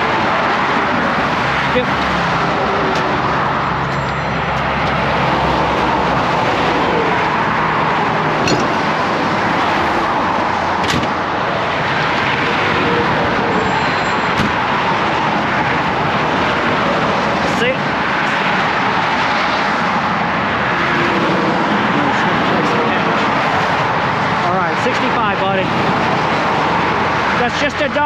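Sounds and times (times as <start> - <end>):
highway traffic rushing past: 0.0 - 28.0.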